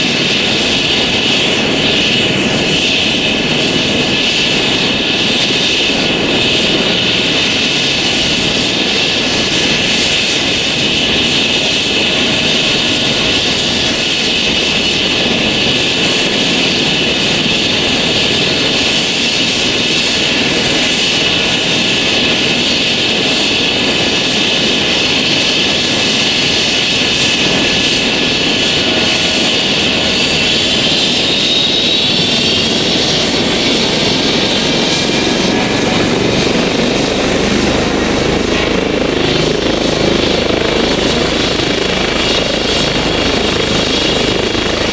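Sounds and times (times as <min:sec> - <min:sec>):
helicopter turbine whine: 0:00.0 - 0:44.9.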